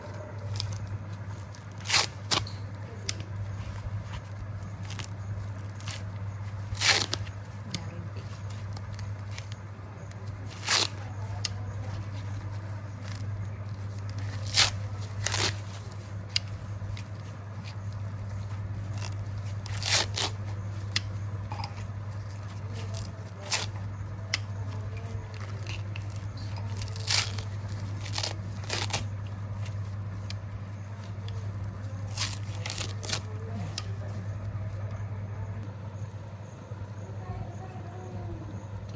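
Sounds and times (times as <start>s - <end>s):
husk crunching and tearing: 0.0s - 34.9s
steady low hum: 0.0s - 38.9s.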